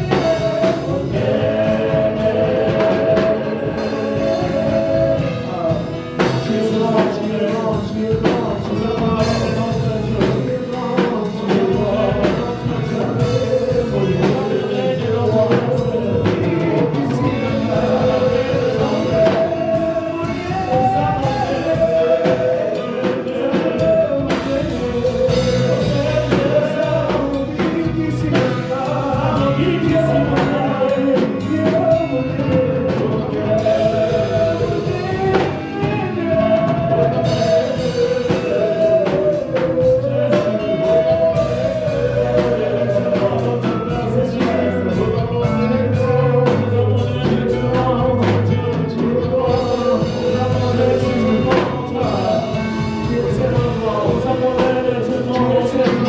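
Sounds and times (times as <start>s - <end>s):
band with drums: 0.0s - 56.0s
voices singing: 0.0s - 56.0s.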